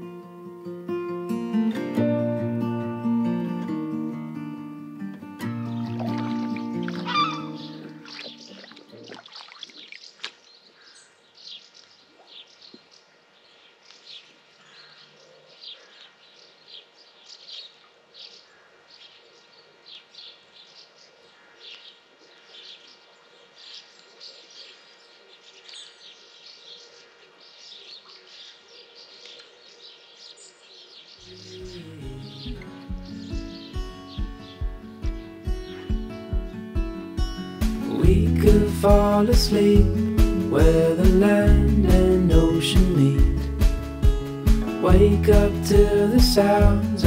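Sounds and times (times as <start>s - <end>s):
wild birds chirping: 3.0s - 47.0s.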